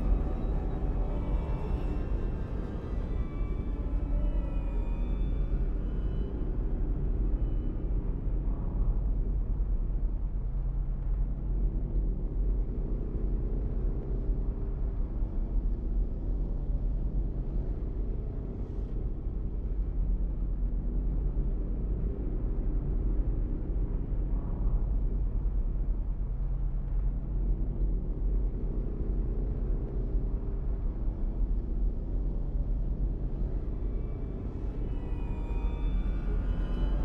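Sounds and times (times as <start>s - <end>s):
deep rumbling horror drone: 0.0s - 37.0s.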